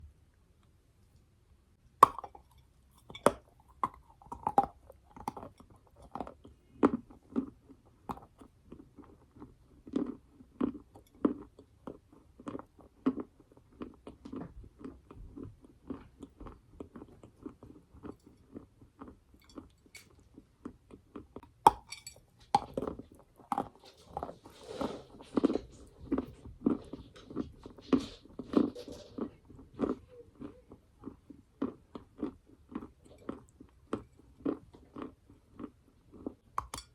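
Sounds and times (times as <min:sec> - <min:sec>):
crunchy chewing of clay: 0:01.9 - 0:36.9.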